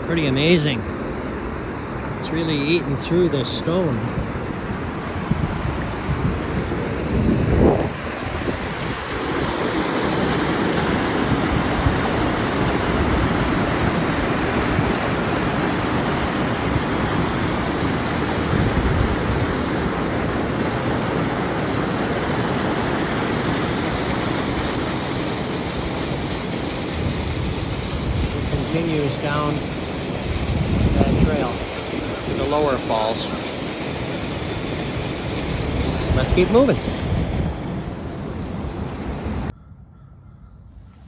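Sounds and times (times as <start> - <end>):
waterfall rushing: 0.0 - 39.5.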